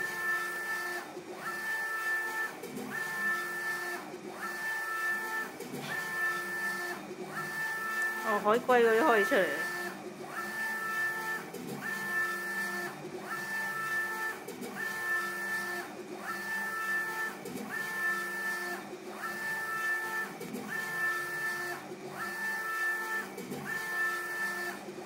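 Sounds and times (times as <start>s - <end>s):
printer carriage mechanical whine: 0.0s - 25.0s.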